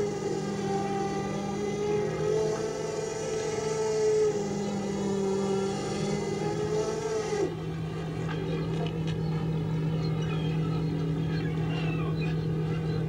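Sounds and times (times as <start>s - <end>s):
boat engine running: 0.0s - 13.0s
gulls calling: 0.0s - 13.0s.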